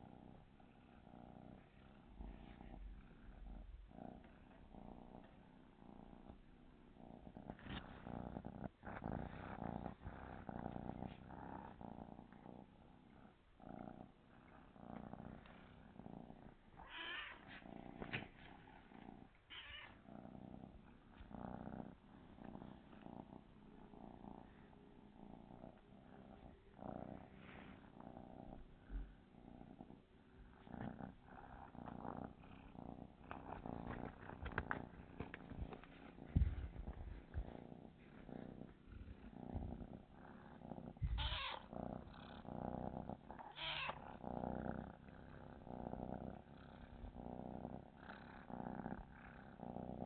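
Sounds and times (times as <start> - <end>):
kitten purring: 0.0 - 50.0.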